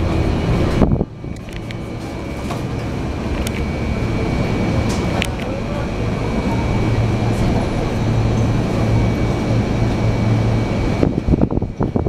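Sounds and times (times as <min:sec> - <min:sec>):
train interior rumble and hum: 0:00.0 - 0:12.0.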